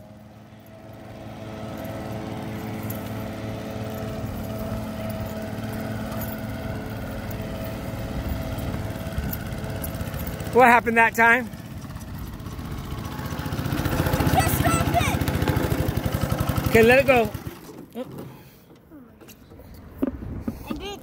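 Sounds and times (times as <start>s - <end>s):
small kart engine running: 0.0s - 21.0s.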